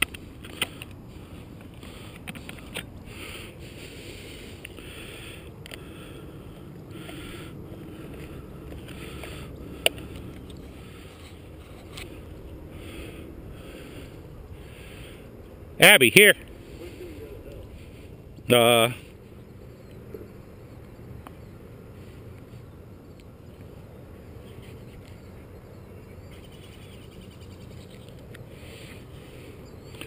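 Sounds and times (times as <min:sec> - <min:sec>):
low wind rumble: 0:00.0 - 0:30.0.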